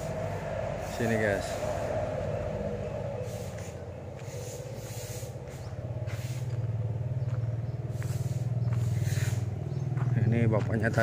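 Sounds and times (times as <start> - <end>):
engine pulsing hum: 0.0 - 11.0.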